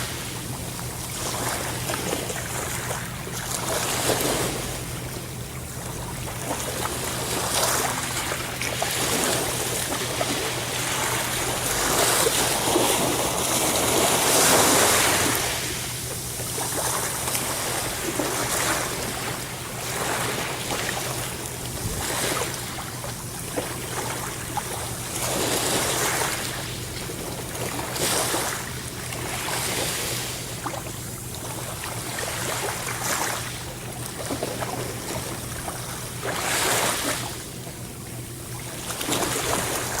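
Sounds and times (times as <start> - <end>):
ocean waves breaking: 0.0 - 37.6, 38.5 - 40.0.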